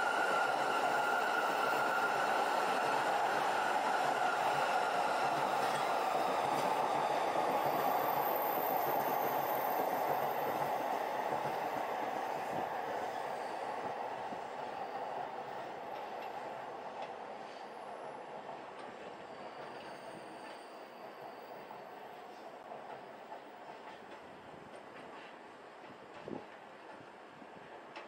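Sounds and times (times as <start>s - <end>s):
train wheel and rail noise: 0.0s - 28.0s.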